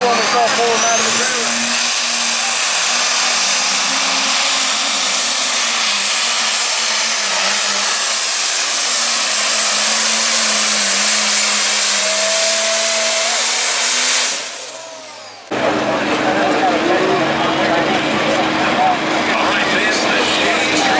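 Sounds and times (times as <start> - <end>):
diesel engine running at high power: 0.0 - 20.9
strong turbo hiss: 0.0 - 20.9.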